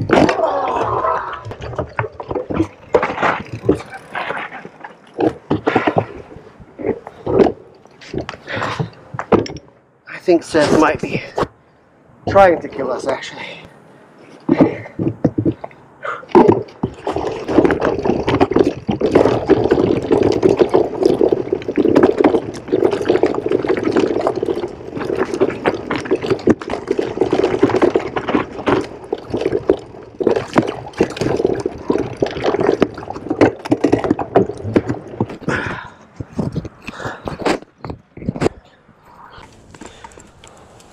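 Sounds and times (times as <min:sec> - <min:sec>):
bike tyres rumbling on rocks: 0:00.0 - 0:09.6, 0:14.4 - 0:38.8, 0:39.5 - 0:40.9.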